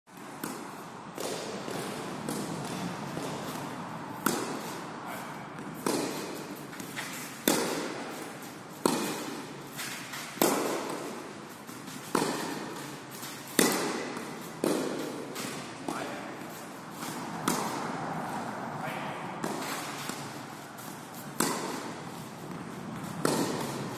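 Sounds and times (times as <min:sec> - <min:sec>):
tennis balls struck with rackets: 0:00.1 - 0:23.9.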